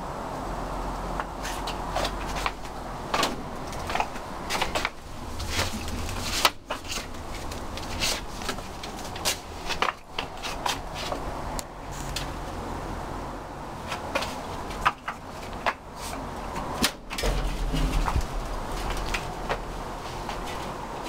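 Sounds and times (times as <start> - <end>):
low outdoor hum: 0.0 - 21.0.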